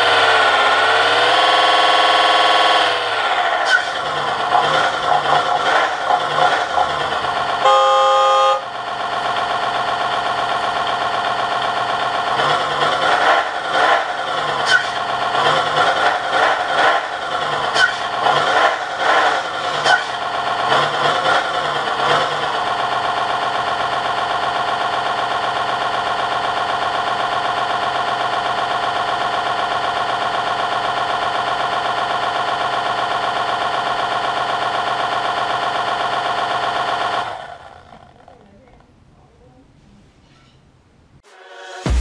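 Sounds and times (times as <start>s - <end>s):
electronic truck engine revving: 0.0s - 38.2s.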